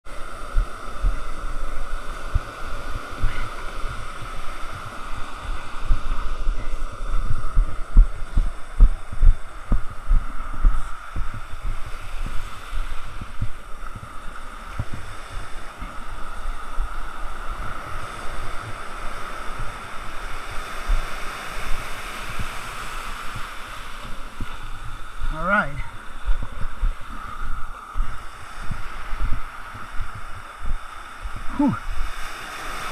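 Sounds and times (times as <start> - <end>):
wind thumps on microphone: 0.0 - 32.9
surf hissing: 0.1 - 32.9.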